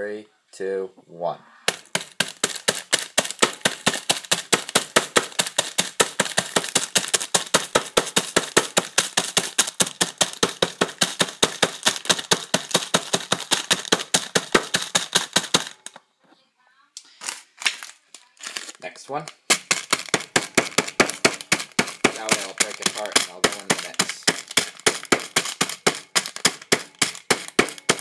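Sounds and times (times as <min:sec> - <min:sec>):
hammer pounding plastic packet: 0:01.7 - 0:16.0, 0:17.2 - 0:28.0.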